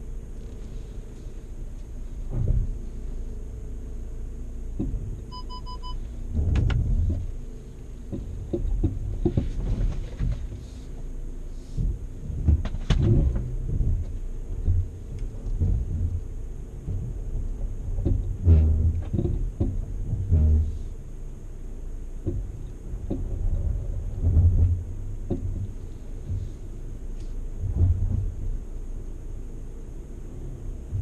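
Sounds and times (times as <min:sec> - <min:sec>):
knocks and rattles over bumps: 0:00.0 - 0:31.0
truck cabin low rumble: 0:00.0 - 0:31.0.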